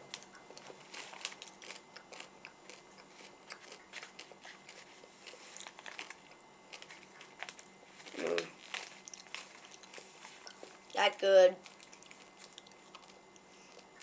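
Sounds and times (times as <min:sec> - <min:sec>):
candy shell crunching: 0:00.1 - 0:11.0, 0:11.6 - 0:13.9.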